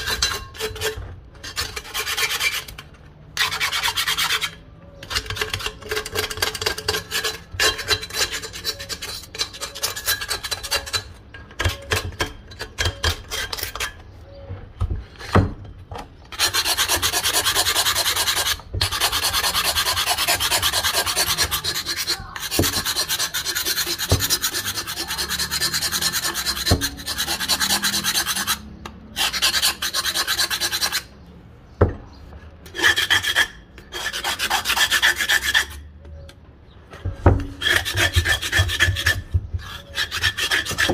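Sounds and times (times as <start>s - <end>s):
knife scraping metal pot: 0.0s - 14.5s, 16.3s - 31.1s, 32.6s - 35.9s, 37.1s - 40.9s.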